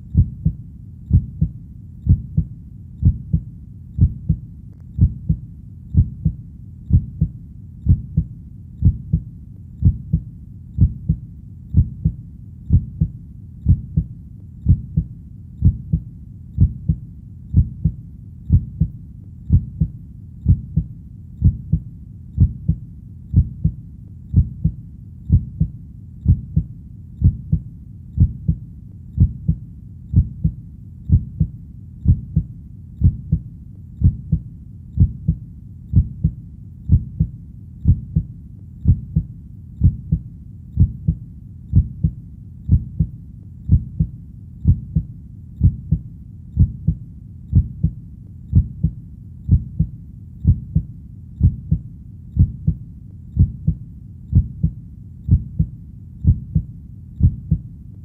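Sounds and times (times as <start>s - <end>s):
heartbeat: 0.0s - 57.8s.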